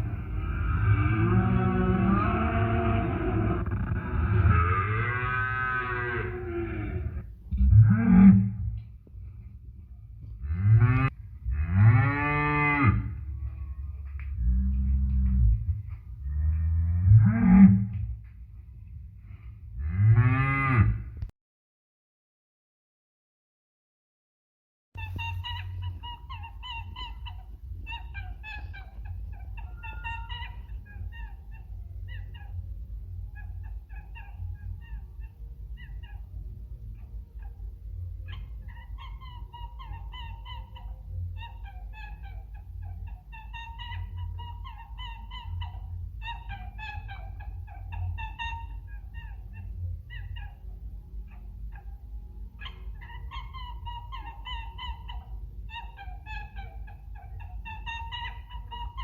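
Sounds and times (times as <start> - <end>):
steady low rumble: 0.0 - 4.9, 6.2 - 12.1, 12.9 - 19.9, 25.0 - 59.0.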